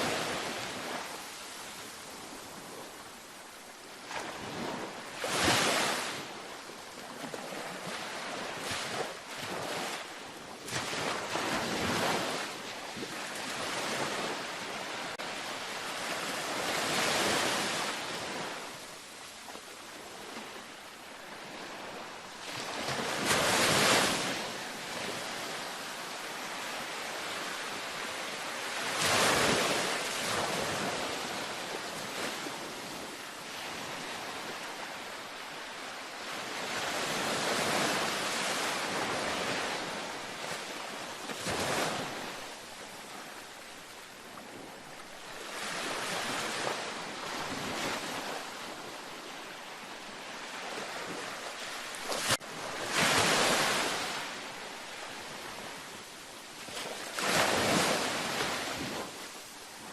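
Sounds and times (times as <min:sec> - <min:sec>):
ocean waves breaking: 0:04.0 - 0:06.4, 0:07.1 - 0:18.8, 0:19.9 - 0:59.5.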